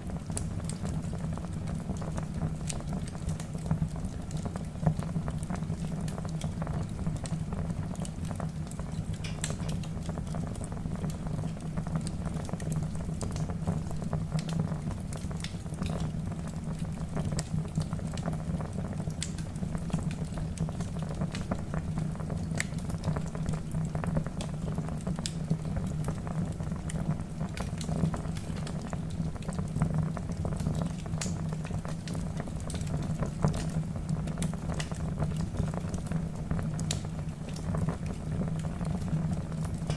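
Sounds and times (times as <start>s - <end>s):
low rumble of flames: 0.0s - 39.9s
logs crackling and popping: 0.1s - 39.9s.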